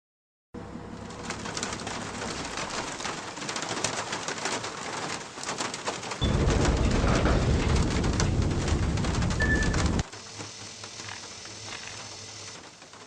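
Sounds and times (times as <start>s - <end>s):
heavy rain on pavement: 1.1s - 13.0s.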